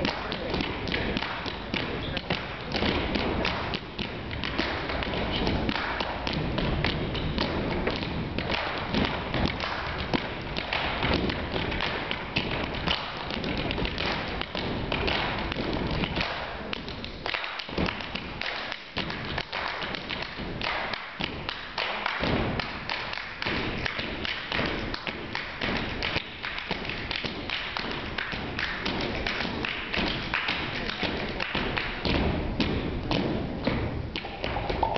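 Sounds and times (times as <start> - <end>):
feet stomping on wooden stage: 0.0 - 34.9
hands clapping in rhythm: 0.0 - 34.9.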